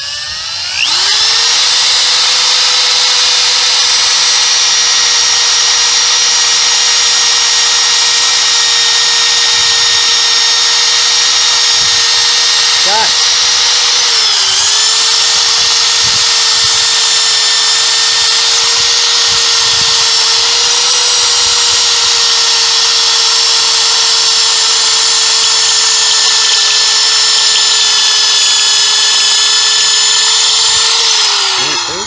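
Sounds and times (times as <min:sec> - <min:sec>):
power drill boring through steel: 0:00.0 - 0:32.0.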